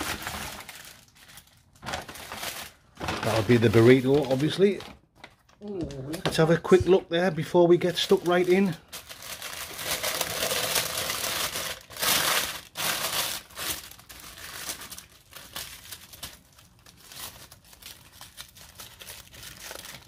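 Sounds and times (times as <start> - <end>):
aluminium foil crinkling: 0.0 - 6.1, 7.8 - 20.0
paper wrapping crinkling: 0.0 - 6.1, 7.7 - 20.0.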